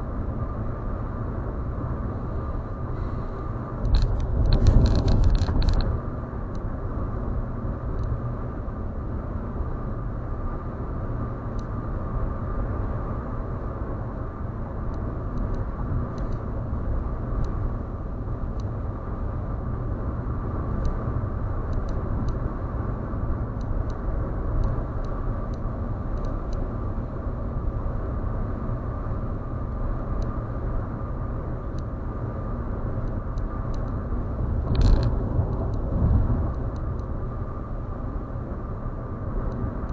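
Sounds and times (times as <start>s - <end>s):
faint steady whine: 0.0s - 39.9s
vehicle road rumble: 0.0s - 39.9s.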